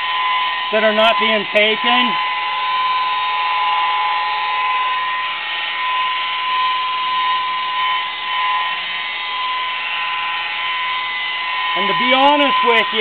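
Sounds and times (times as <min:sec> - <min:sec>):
electric polisher motor whine: 0:00.0 - 0:13.0.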